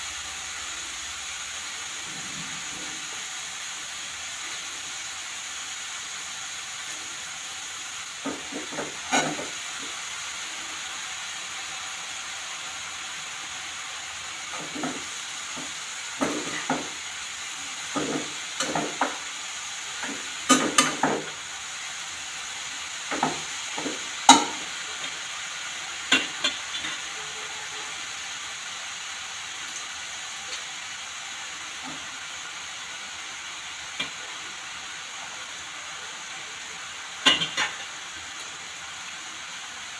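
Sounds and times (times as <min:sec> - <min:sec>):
carrot sizzling in a pan: 0:00.0 - 0:39.9.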